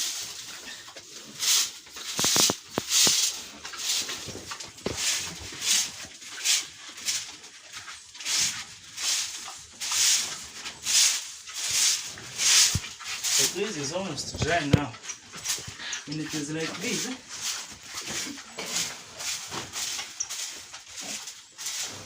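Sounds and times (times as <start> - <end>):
stiff broom sweeping sawdust: 0.0 - 14.7, 15.4 - 22.0.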